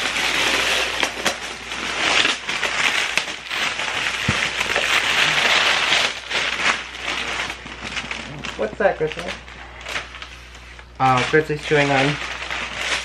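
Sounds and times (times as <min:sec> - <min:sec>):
cardboard and plastic rustling: 0:00.0 - 0:13.0.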